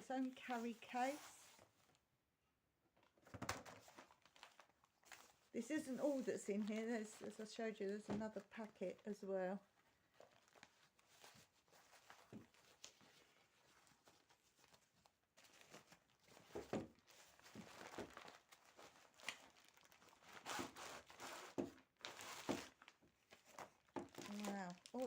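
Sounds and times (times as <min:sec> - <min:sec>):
packaging rustling and crinkling: 0:03.0 - 0:25.0.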